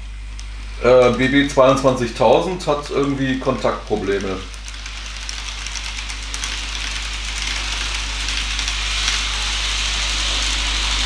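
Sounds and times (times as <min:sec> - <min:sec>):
low motor hum: 0:00.0 - 0:11.0
rolling hiss: 0:00.6 - 0:11.0
model train wheels clicking on track: 0:00.8 - 0:11.0.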